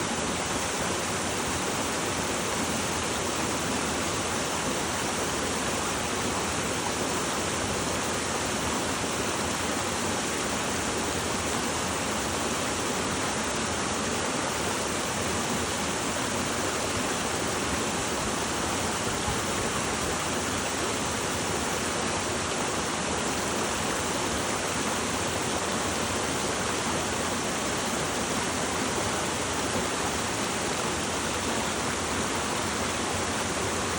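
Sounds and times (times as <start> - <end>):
spring water rushing: 0.0 - 33.9.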